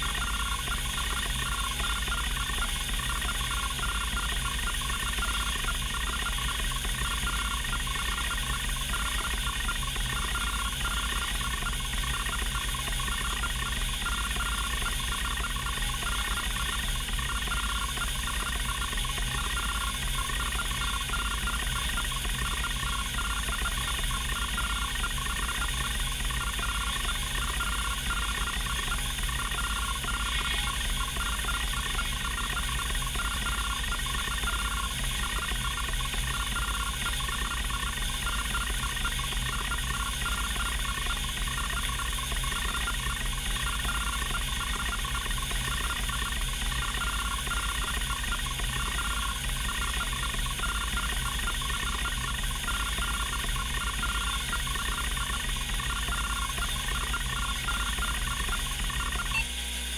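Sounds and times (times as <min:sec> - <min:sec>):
hard drive stepper motor buzzing and ticking: 0:00.0 - 0:59.9.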